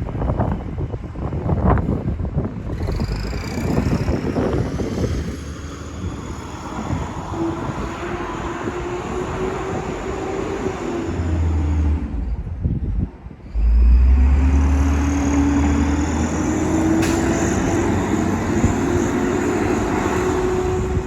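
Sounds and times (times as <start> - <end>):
truck engine revving: 2.6 - 21.0.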